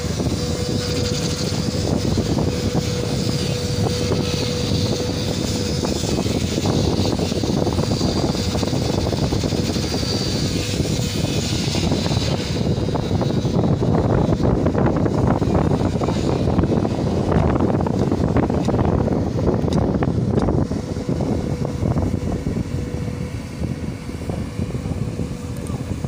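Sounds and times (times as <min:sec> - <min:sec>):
diesel machinery running: 0:00.0 - 0:26.0
wind rumble on microphone: 0:00.0 - 0:26.0.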